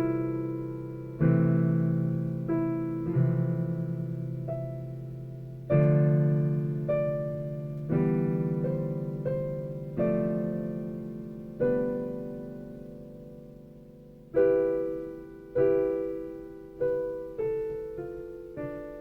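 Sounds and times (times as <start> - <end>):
slow solo piano chords: 0.0 - 19.0.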